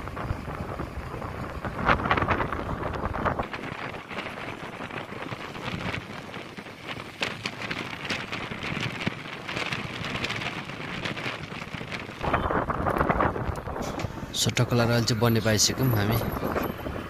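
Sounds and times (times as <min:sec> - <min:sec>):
road noise: 0:00.0 - 0:17.0
wind rushing past window: 0:00.0 - 0:17.0.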